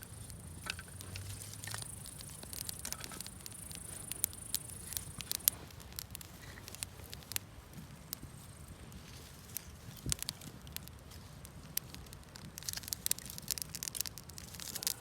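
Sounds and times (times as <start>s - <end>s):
campfire crackling and popping: 0.0s - 15.0s
steady high hiss: 0.0s - 15.0s.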